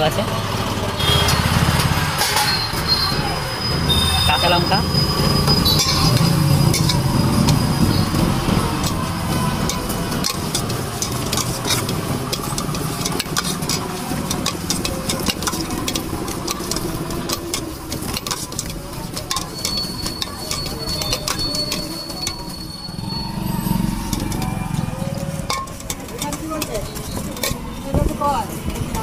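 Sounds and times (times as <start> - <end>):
street traffic rumble: 0.0 - 29.0
potatoes mashed in steel bowl: 4.9 - 29.0.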